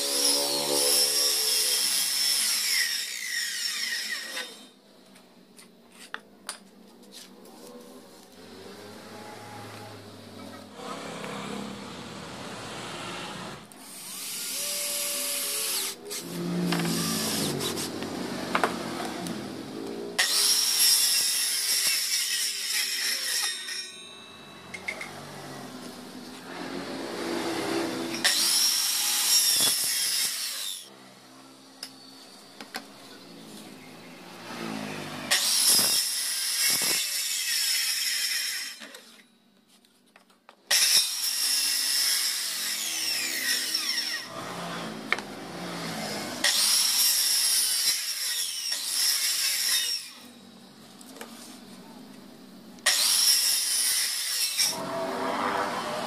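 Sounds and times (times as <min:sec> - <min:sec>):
circular saw cutting wood: 0:00.0 - 0:04.8, 0:08.3 - 0:39.3, 0:40.7 - 0:50.5, 0:52.8 - 0:56.0.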